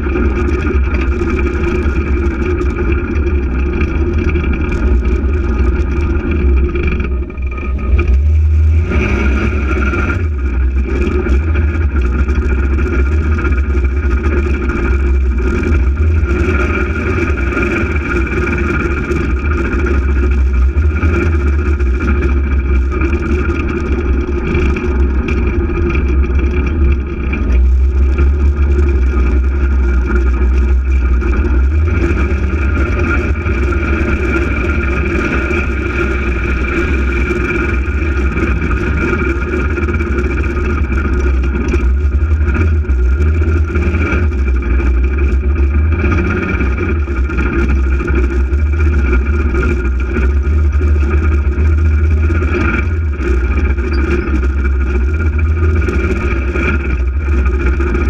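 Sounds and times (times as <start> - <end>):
drivetrain whine: 0.0 - 58.0
engine running steadily: 0.0 - 58.0.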